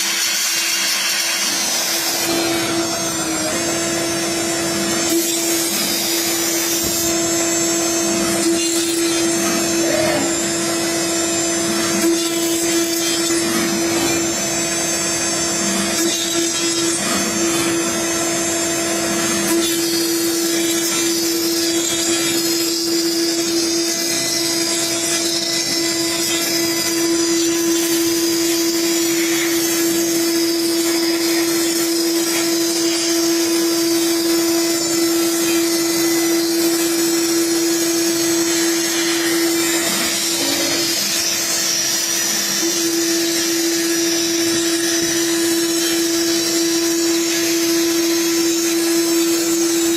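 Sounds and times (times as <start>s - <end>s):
router spindle whine: 0.0s - 49.9s.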